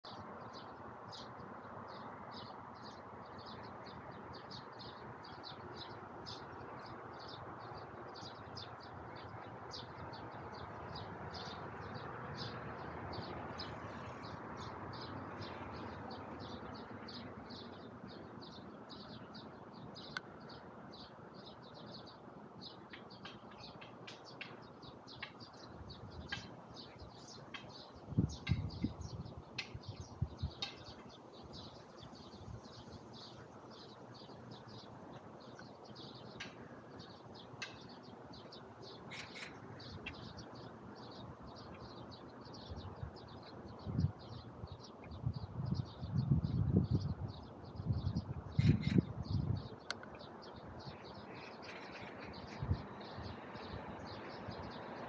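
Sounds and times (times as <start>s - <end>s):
city traffic hum: 0.0s - 55.0s
small birds chirping: 0.0s - 55.0s.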